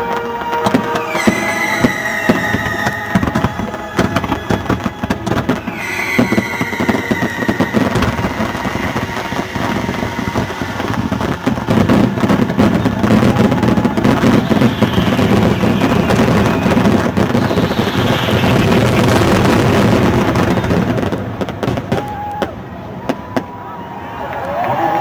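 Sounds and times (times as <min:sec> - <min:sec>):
fireworks booms and crackles: 0:00.0 - 0:23.9.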